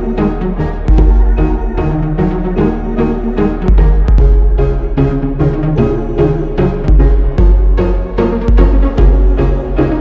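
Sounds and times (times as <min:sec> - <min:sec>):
music with drum beat and heavy bass: 0:00.0 - 0:10.0.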